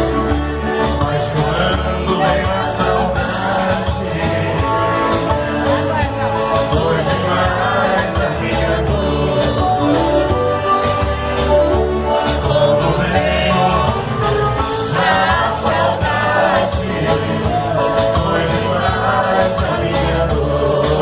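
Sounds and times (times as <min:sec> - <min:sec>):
person singing: 0:00.0 - 0:10.3, 0:12.0 - 0:21.0
live band playing: 0:00.0 - 0:21.0.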